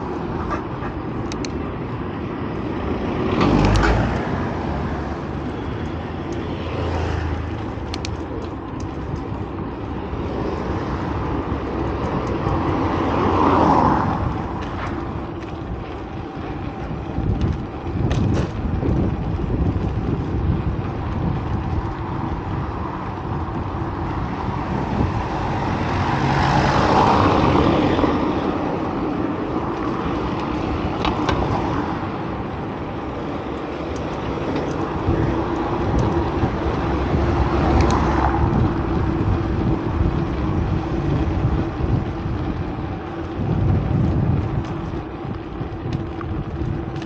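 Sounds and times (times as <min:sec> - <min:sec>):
road traffic: 0:00.0 - 0:47.0
vehicle passing: 0:00.0 - 0:47.0.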